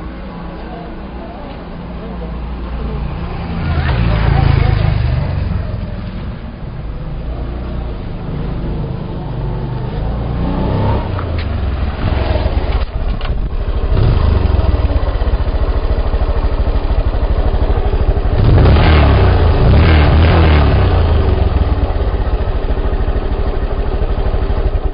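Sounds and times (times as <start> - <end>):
motorcycle engine idling and revving: 0.0 - 24.9.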